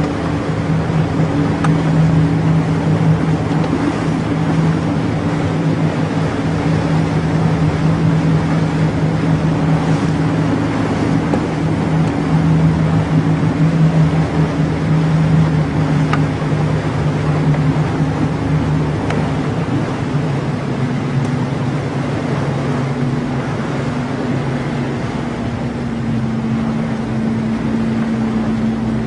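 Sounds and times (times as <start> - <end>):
motorboat engine humming: 0.0 - 29.0
rushing water: 0.0 - 29.0
wind: 0.0 - 29.0.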